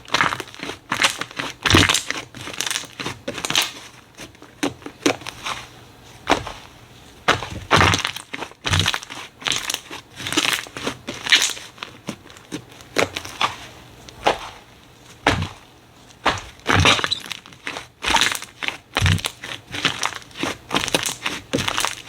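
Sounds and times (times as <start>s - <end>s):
slime squeezed crackling: 0.0s - 3.9s, 7.4s - 14.5s, 15.2s - 22.0s.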